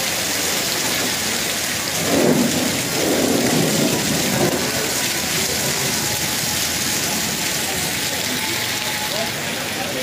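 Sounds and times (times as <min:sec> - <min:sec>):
hail and rain pelting road: 0:00.0 - 0:10.0.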